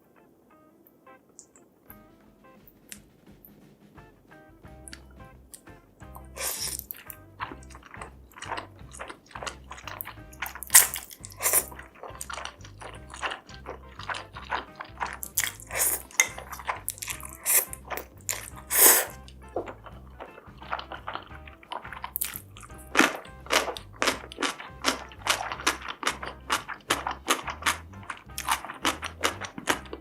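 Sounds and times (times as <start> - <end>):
background music with bass: 1.9 - 30.0
crunchy chewing: 4.8 - 30.0.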